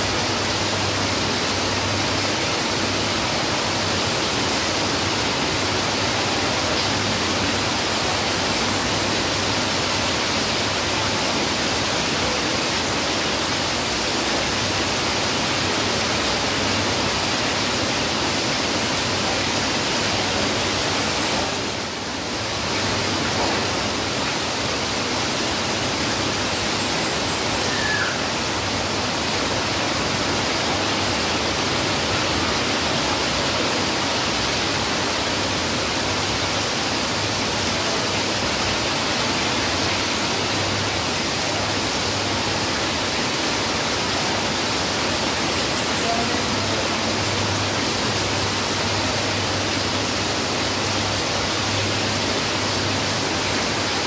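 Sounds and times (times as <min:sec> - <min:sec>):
heavy rain: 0:00.0 - 0:54.0
runoff pouring off roof: 0:00.0 - 0:54.0.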